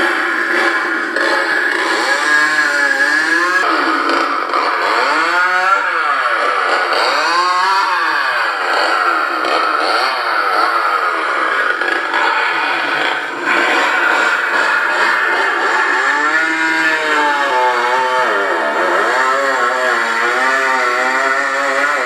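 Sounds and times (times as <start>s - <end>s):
recorded chainsaw revving: 0.0s - 22.0s.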